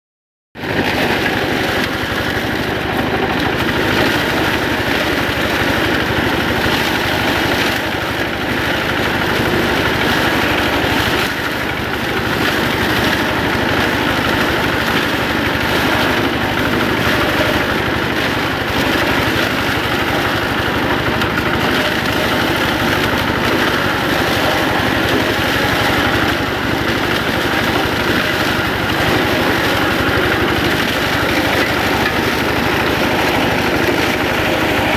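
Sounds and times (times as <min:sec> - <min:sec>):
walking tractor engine running: 0:00.6 - 0:34.9.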